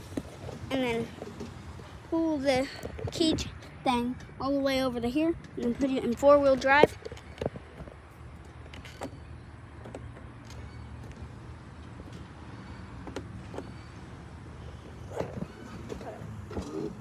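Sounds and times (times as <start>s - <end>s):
tractor motor humming: 0.0s - 17.0s.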